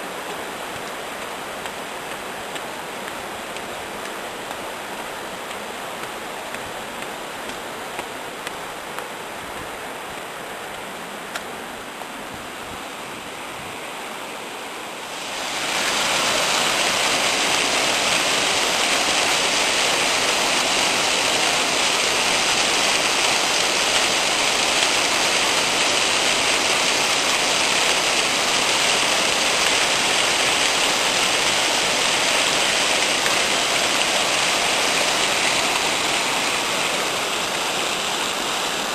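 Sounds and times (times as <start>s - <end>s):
waterfall rushing: 0.0s - 12.2s, 14.2s - 38.9s.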